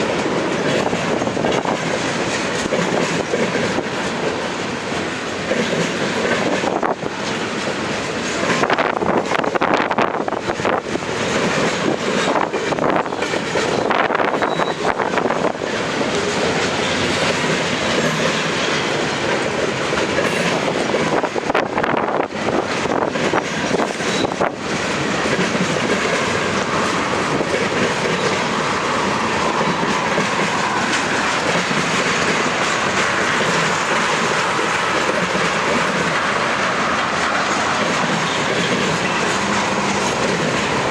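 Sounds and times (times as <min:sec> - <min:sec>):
train wheels clacking over track: 0:00.0 - 0:40.9.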